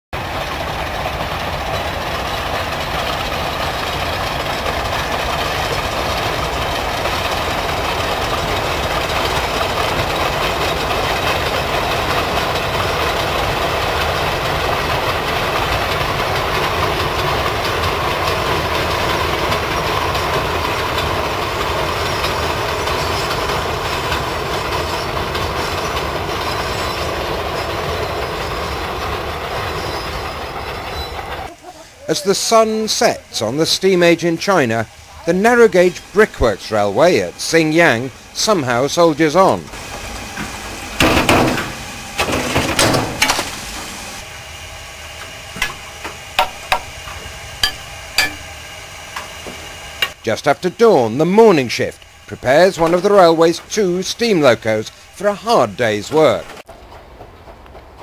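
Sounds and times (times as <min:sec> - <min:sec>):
train wagons running on track: 0:00.1 - 0:58.0.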